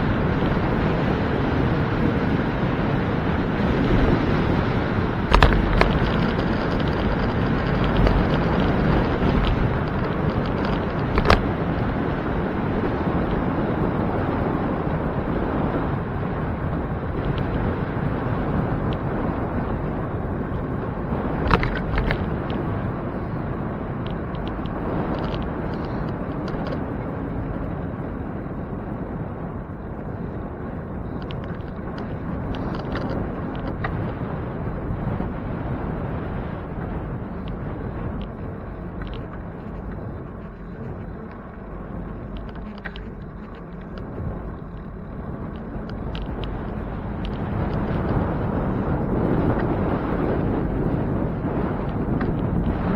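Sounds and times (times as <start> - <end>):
traffic: 0.0 - 52.9
tyre and road noise: 0.0 - 52.9
wind on microphone: 0.0 - 52.9.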